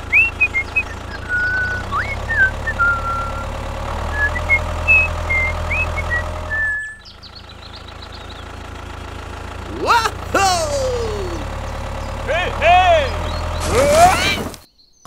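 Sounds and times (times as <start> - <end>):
toy tractor engine running: 0.0 - 14.6.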